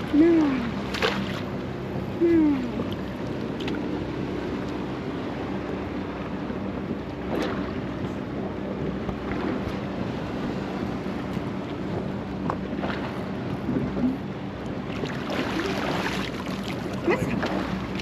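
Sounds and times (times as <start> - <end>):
boat engine humming: 0.0 - 18.0
water noise: 0.0 - 18.0
wind: 0.0 - 18.0.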